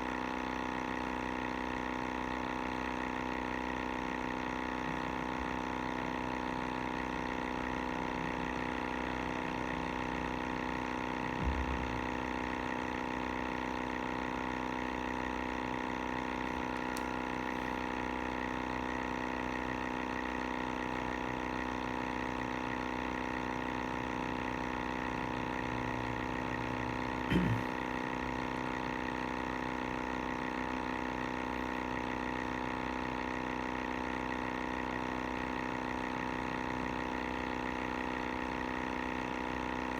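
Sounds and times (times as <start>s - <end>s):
pump motor humming: 0.0s - 39.9s.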